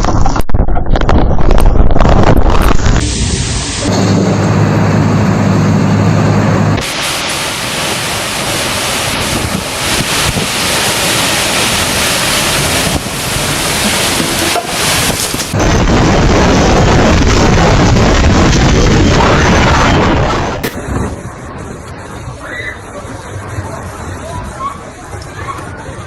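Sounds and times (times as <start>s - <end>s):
wind noise on microphone: 0.0s - 26.0s
heavy rain: 1.4s - 26.0s
low drone: 2.7s - 23.9s.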